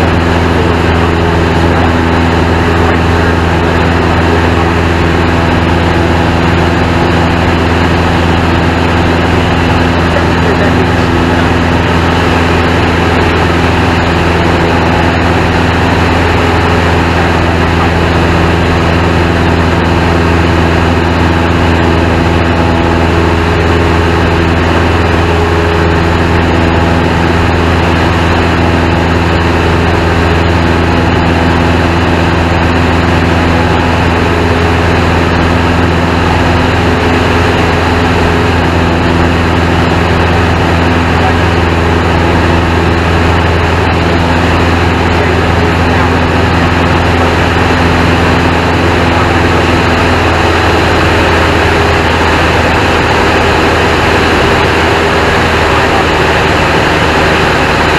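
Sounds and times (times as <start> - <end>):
airplane engine droning: 0.0 - 57.9.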